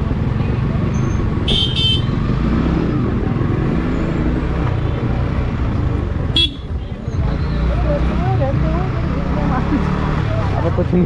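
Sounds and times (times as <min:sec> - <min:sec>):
motorcycle engine in traffic: 0:00.0 - 0:11.0.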